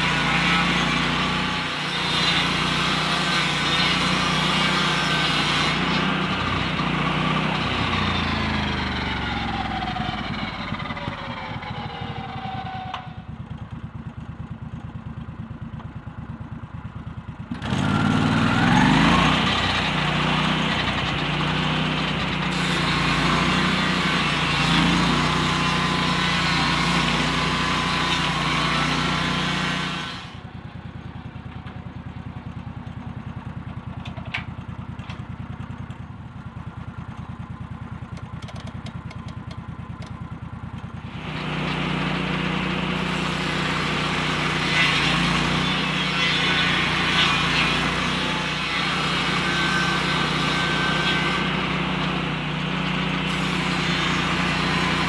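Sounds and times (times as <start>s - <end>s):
circular saw cutting log: 0.0s - 13.3s, 17.5s - 30.5s, 36.9s - 55.0s
sawmill engine running: 0.0s - 55.0s.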